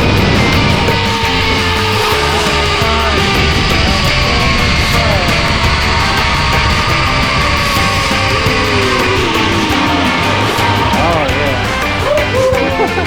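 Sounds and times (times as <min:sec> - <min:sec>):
hard rock music: 0:00.0 - 0:13.0.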